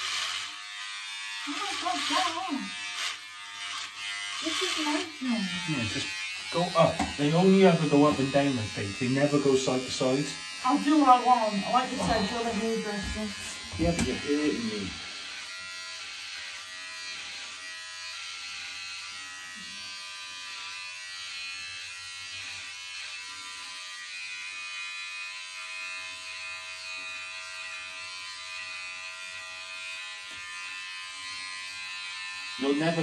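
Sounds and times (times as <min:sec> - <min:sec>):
electric hair clippers buzzing: 0:00.0 - 0:33.0.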